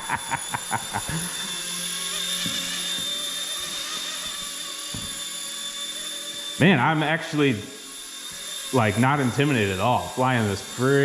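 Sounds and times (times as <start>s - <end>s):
rc helicopter motor whine: 0.0s - 11.0s
rotor noise: 0.0s - 11.0s.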